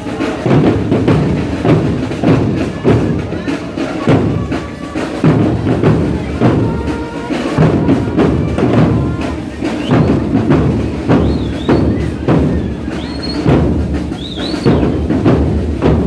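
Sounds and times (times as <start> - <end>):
drums keeping steady beat: 0.0 - 16.0
marching band playing: 0.0 - 16.0.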